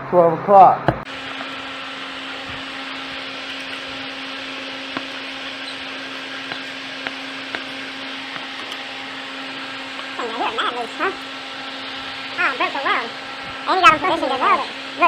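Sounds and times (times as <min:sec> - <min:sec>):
electric motor hum: 0:00.9 - 0:15.0.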